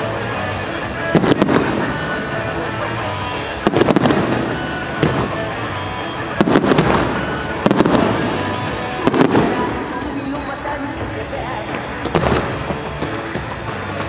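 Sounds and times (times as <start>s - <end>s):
background music: 0.0s - 14.0s
fireworks bursting: 0.0s - 14.0s.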